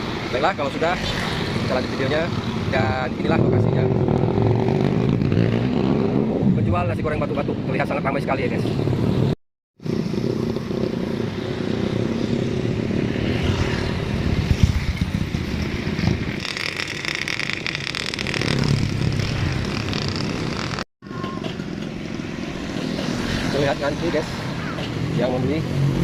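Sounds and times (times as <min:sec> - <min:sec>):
motorbikes and cars passing: 0:00.0 - 0:26.0.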